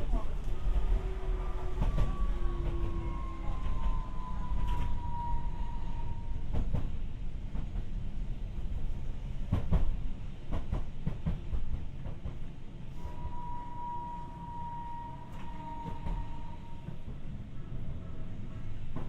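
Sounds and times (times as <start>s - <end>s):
tram wheels rumbling on rail: 0.0s - 19.0s.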